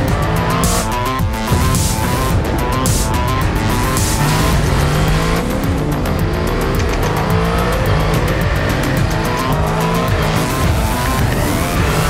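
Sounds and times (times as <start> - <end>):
electronic music with steady beat: 0.0 - 12.0
motorcycle engine revving: 0.0 - 12.0.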